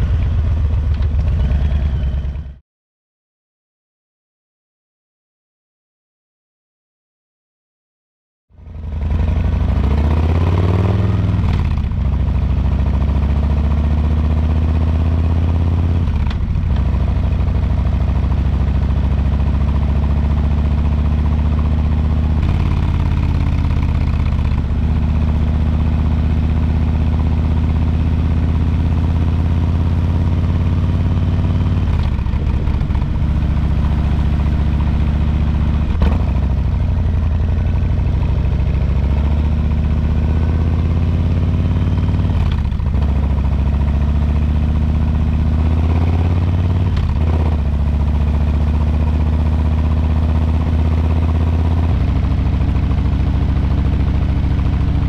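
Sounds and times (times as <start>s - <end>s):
motorcycle exhaust accelerating: 0.0s - 2.6s, 8.6s - 55.0s.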